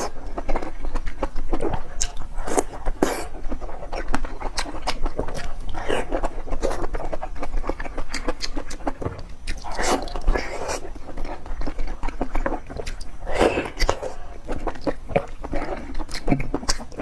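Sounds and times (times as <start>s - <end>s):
mouth clicks: 0.0s - 17.0s
wet chewing and biting: 0.0s - 17.0s.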